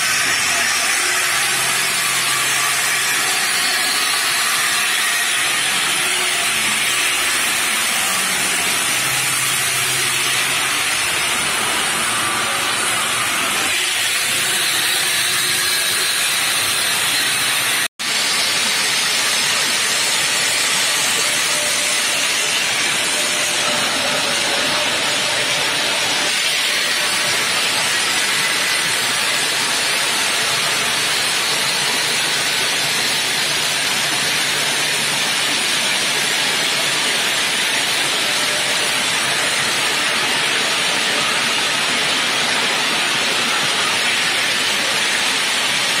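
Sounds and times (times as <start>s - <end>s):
saw blade cutting stone: 0.0s - 46.0s.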